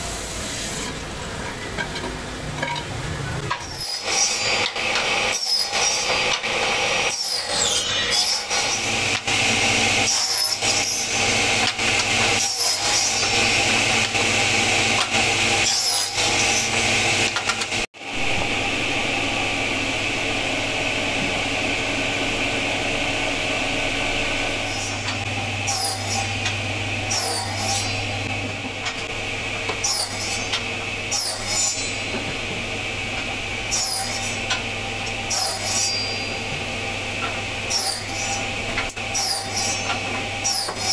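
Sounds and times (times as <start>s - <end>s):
table saw cutting wood: 2.5s - 40.9s.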